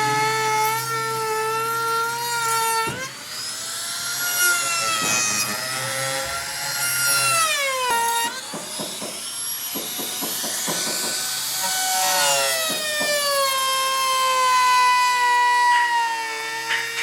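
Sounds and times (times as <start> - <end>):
power tool motor whining: 0.0 - 17.0
rasping wood cutting: 0.0 - 17.0.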